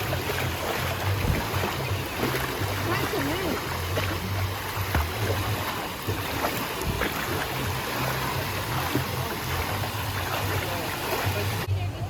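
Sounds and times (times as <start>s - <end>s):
running water splashing: 0.0s - 11.7s.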